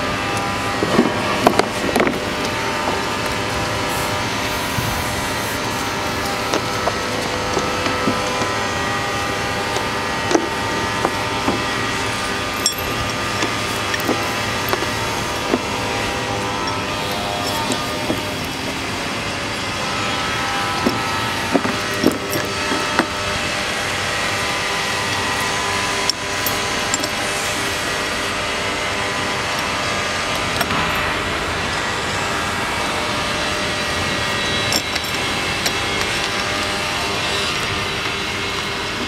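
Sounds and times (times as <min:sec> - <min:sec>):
mechanical background hum: 0:00.0 - 0:39.0.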